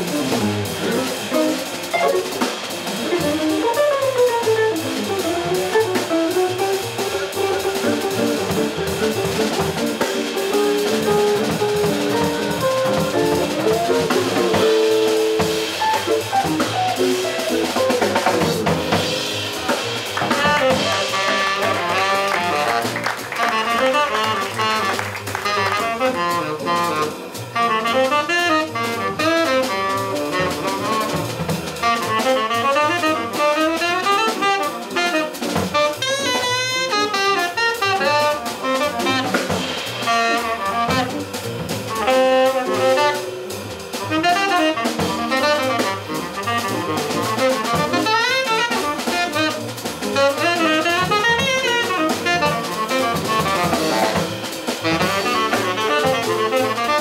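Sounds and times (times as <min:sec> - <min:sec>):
double bass: 0:00.0 - 0:57.0
drum kit: 0:00.0 - 0:57.0
tenor saxophone: 0:00.0 - 0:57.0.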